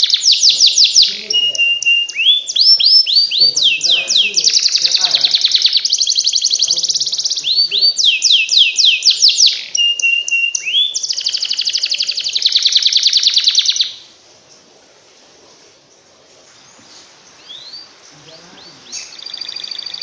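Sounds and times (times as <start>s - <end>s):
canary song trills: 0.0s - 14.9s, 15.8s - 20.0s.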